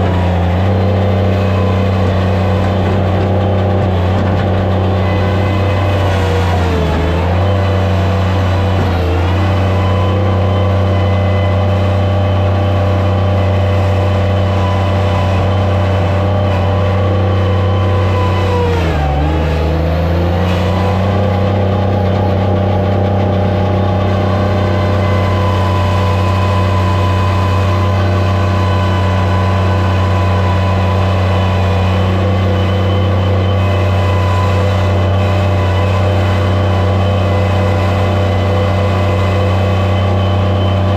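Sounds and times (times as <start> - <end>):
loader engine at high throttle: 0.0 - 40.9.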